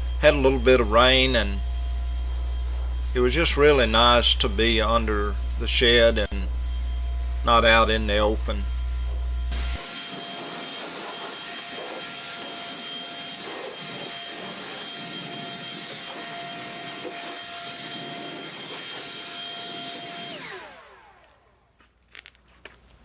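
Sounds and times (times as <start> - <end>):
hissing noise: 0.0 - 20.5
sawmill whine: 0.0 - 21.9.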